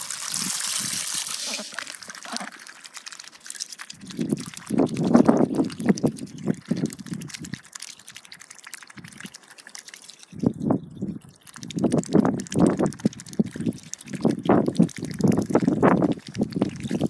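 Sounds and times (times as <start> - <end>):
ducks slurping water: 0.0 - 17.0.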